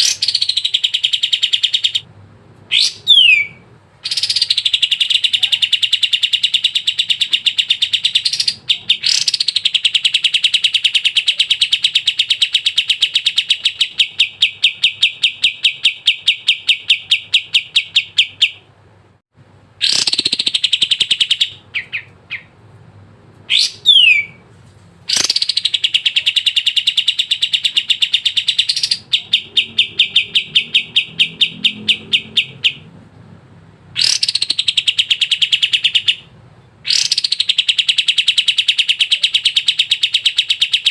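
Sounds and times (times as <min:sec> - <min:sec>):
bird singing rapid trills: 0:00.0 - 0:02.0, 0:02.7 - 0:18.6, 0:19.8 - 0:22.5, 0:25.1 - 0:32.9, 0:34.0 - 0:36.3, 0:36.9 - 0:40.9.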